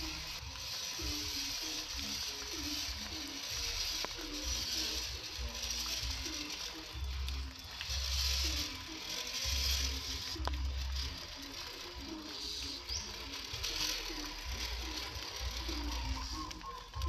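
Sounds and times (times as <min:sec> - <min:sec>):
toy car motor whirring: 0:00.0 - 0:17.0.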